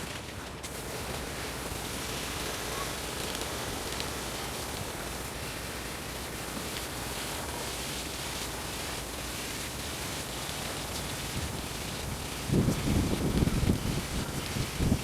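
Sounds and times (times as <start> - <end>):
water jet spraying: 0.7 - 15.0.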